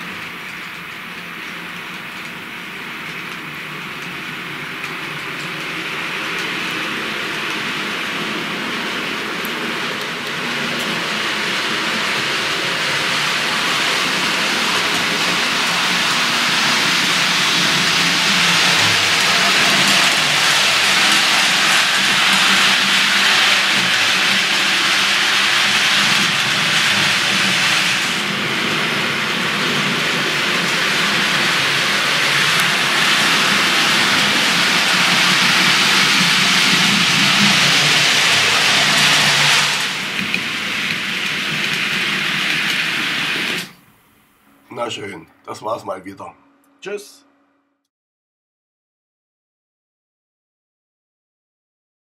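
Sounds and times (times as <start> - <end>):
model train wheels hissing: 0.0 - 43.9.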